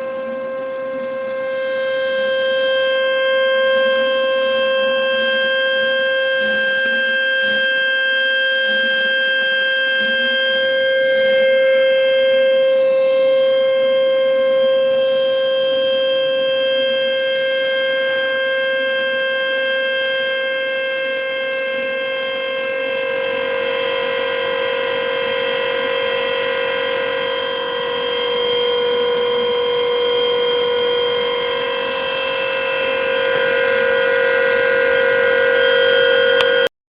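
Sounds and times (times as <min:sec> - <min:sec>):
high steady whistling tone: 0:00.0 - 0:36.7.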